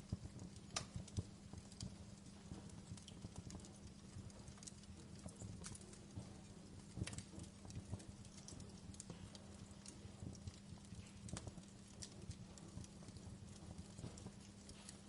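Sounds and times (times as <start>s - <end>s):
faint low hum and hiss: 0.0s - 15.0s
wood fire crackling: 0.0s - 15.0s.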